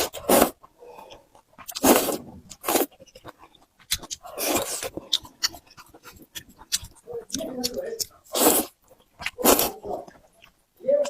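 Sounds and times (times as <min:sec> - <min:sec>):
wet noodle slurping: 0:00.0 - 0:07.0, 0:08.2 - 0:10.4
chewing: 0:00.0 - 0:11.0.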